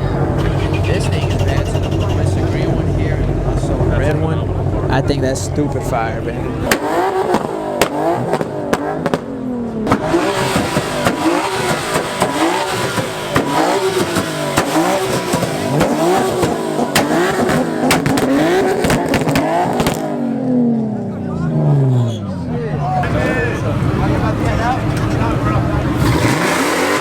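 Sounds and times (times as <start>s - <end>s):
exhaust cracks: 0.0s - 22.4s, 23.0s - 27.0s
car engine revving: 0.0s - 27.0s.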